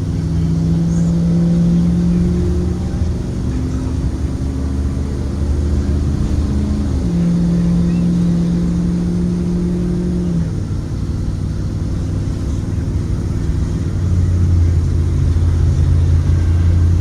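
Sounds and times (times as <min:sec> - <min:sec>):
bus engine running: 0:00.0 - 0:17.0
deeper steady hum: 0:00.0 - 0:17.0.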